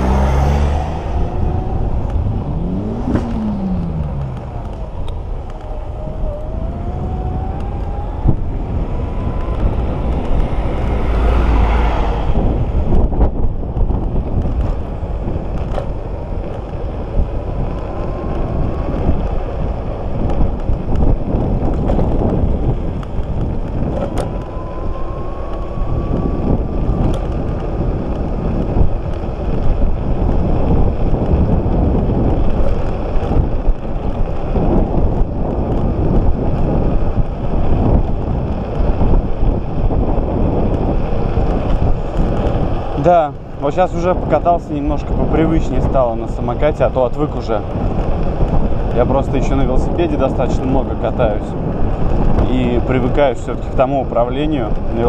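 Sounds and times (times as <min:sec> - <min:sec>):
tyre rumble on asphalt: 0:00.0 - 0:55.0
wind buffeting microphone: 0:00.0 - 0:55.0.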